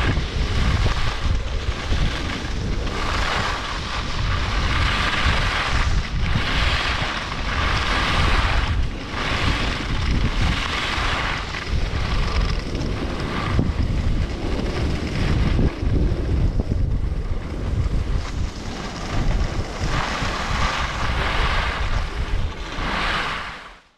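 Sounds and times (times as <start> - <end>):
wind buffeting microphone: 0.0 - 23.7
skis scraping on snow: 0.0 - 23.9.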